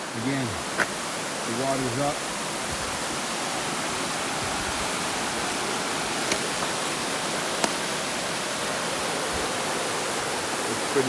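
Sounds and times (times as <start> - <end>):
brook rushing over rocks: 0.0 - 11.0.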